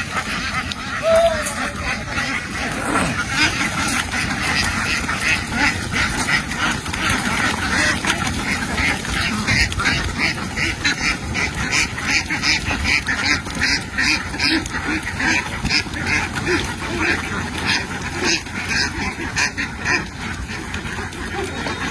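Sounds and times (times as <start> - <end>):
ducks quacking: 0.0 - 21.9.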